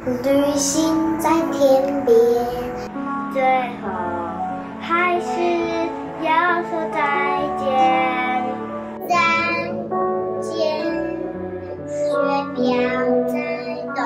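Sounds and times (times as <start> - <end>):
child singing: 0.0 - 14.0
instrumental accompaniment: 0.0 - 14.0.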